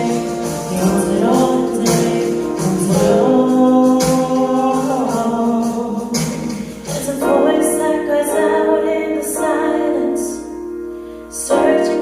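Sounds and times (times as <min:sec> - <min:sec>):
musical accompaniment: 0:00.0 - 0:12.0.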